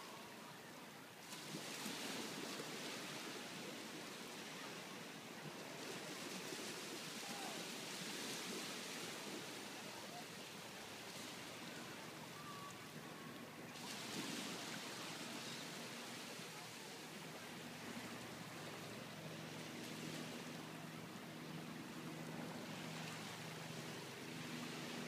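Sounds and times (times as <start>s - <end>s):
small waves washing on shore: 0.0s - 25.0s.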